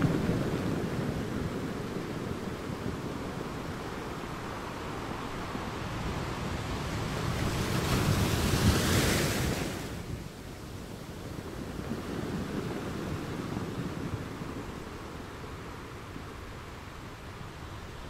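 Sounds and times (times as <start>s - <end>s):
ocean surf washing ashore: 0.0s - 18.0s.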